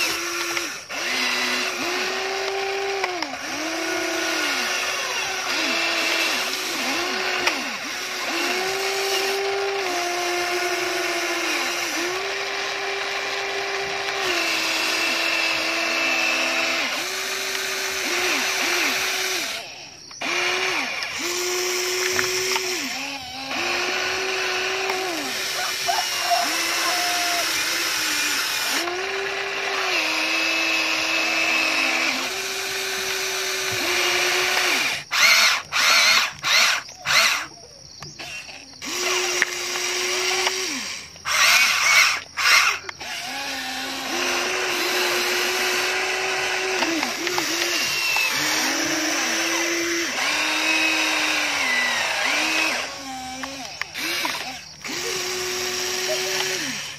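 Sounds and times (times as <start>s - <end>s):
toy excavator motors whining: 0.0s - 56.9s.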